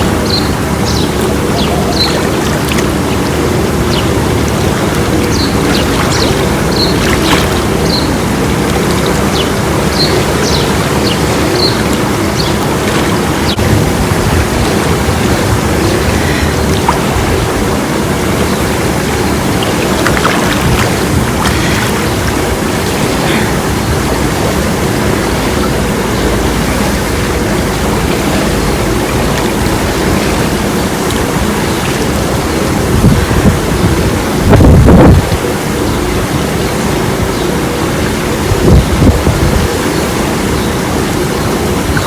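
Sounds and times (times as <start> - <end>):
water rushing in a pool: 0.0 - 42.0.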